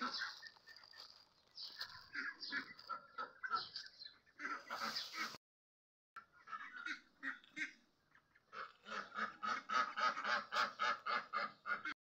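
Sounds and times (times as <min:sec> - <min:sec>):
poultry calling: 0:00.0 - 0:05.4, 0:06.4 - 0:12.0.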